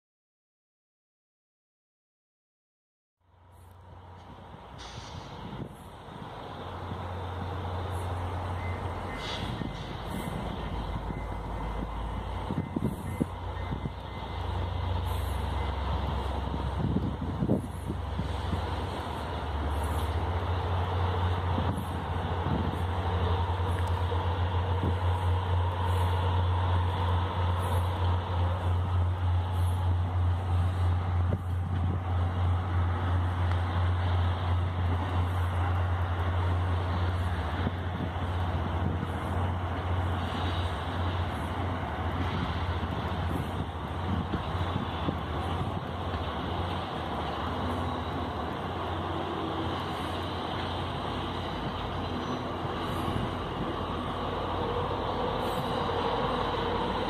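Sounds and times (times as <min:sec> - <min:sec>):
diesel engine droning: 0:03.3 - 0:57.0.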